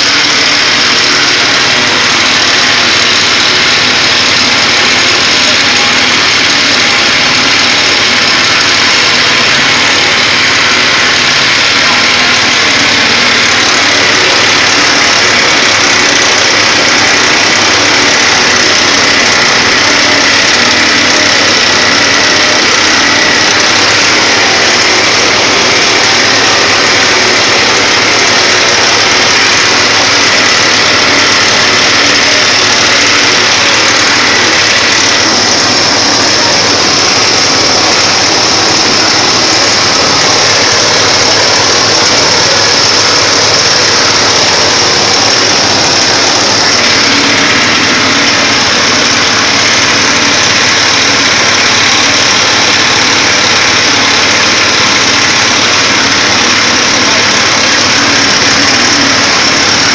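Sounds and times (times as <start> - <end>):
press machine running: 0.0 - 59.9.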